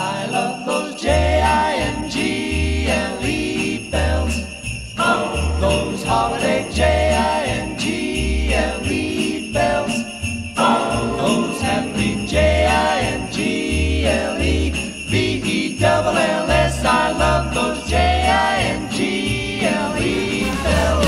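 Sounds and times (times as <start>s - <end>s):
christmas music melody: 0.0s - 21.0s
sleigh bells jingling: 0.0s - 21.0s.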